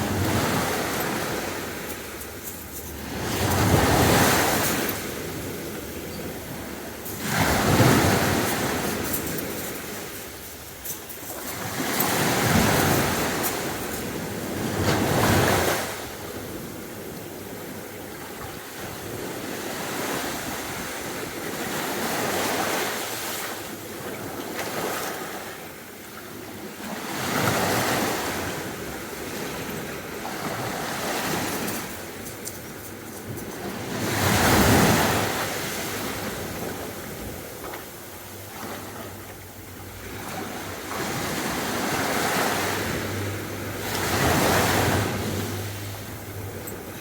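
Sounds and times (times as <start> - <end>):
sea waves breaking on beach: 0.0 - 47.0.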